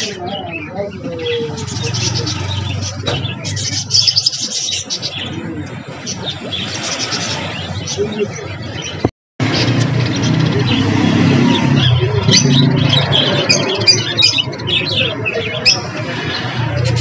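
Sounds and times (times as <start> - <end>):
caged finches and budgerigars chirping: 0.0 - 17.0.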